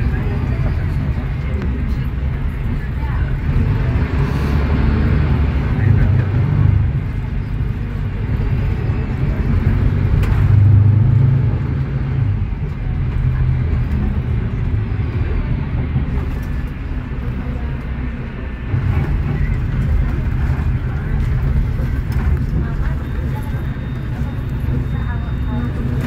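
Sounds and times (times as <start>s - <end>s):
bus engine rumbling: 0.0s - 26.0s.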